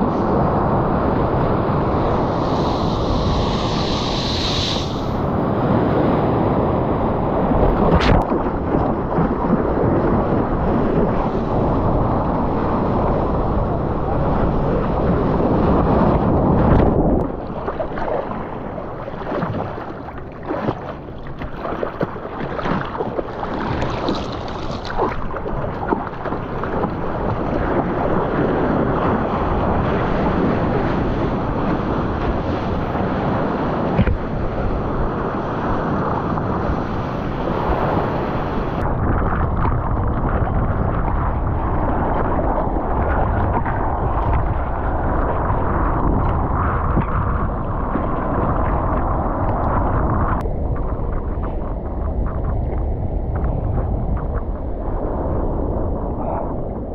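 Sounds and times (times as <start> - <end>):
wind on microphone: 0.0 - 56.9
sea water splashing around surfboard: 7.4 - 55.9.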